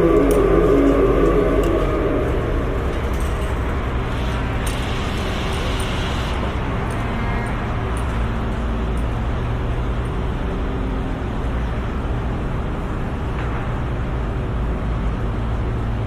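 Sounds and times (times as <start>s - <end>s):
construction site engine rumble: 0.0s - 16.0s.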